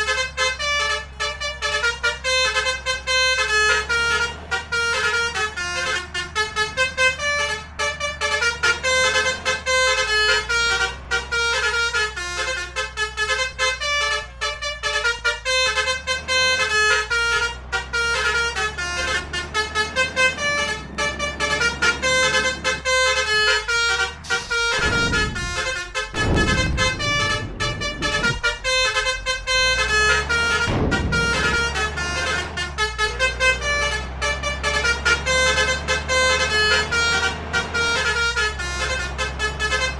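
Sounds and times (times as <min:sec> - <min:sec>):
engines rumbling: 0:00.0 - 0:39.9
multi-tone air horns playing tunes: 0:00.0 - 0:39.9.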